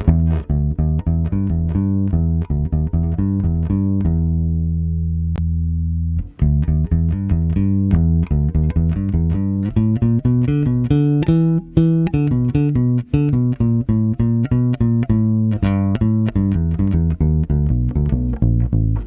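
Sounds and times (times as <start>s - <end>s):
electric bass playing notes: 0.0s - 19.0s.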